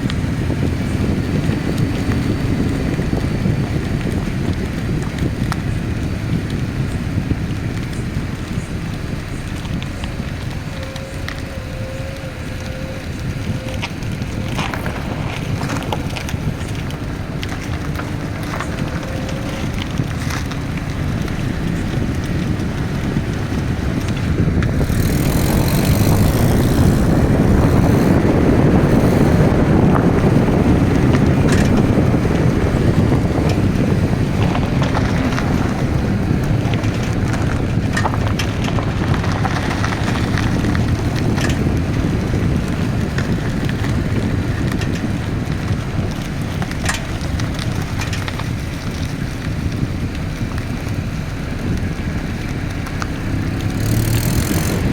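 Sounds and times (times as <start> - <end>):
car engine rumble: 0.0 - 54.9.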